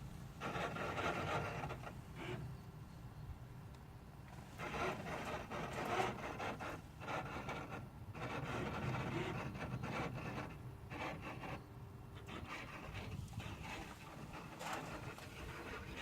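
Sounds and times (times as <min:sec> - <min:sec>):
irregular rasping scraping noise: 0:00.4 - 0:02.5, 0:04.3 - 0:16.0.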